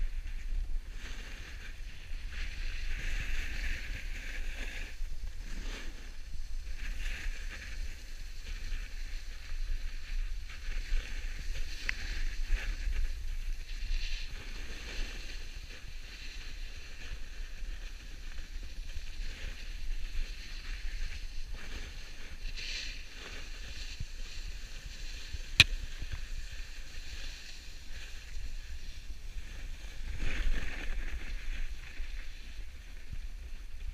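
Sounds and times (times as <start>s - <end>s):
board scraping on snow: 0.0s - 33.9s
wind rumble on microphone: 0.0s - 33.9s.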